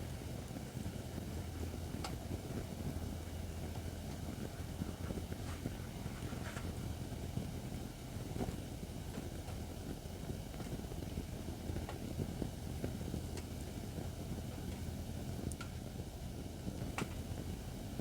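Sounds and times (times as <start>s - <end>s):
fire crackling in fire pit: 0.0s - 18.0s.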